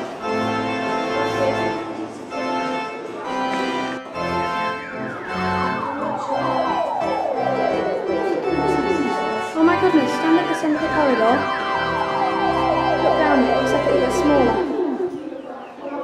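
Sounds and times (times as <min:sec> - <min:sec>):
organ descending runs: 0:00.0 - 0:16.0
organ sustained chords: 0:00.0 - 0:16.0.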